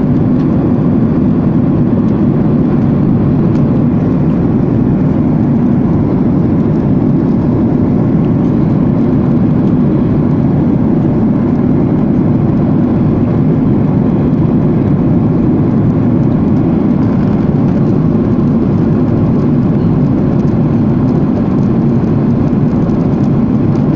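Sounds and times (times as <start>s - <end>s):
airliner cabin engine rumble: 0.0s - 23.9s.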